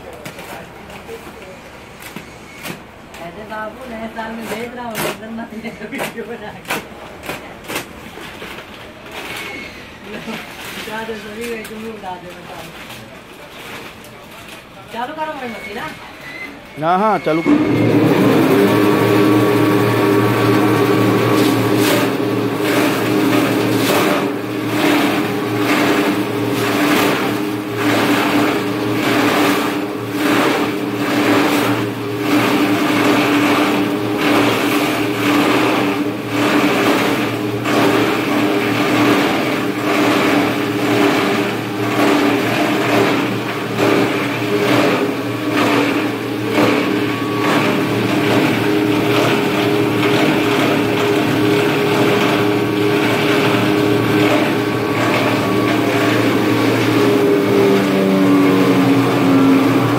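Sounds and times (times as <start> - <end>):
plastic grinder humming: 2.0 - 59.9.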